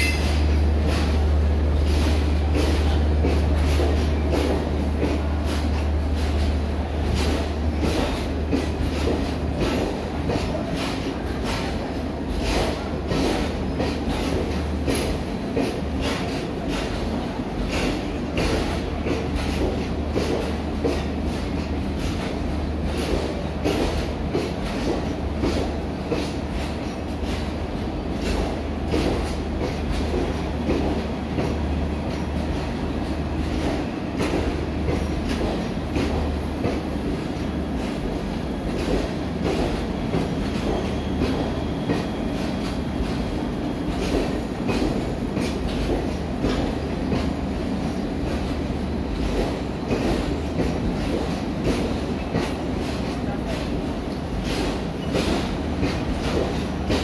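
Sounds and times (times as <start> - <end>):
train coaches rumbling past: 0.0 - 57.0.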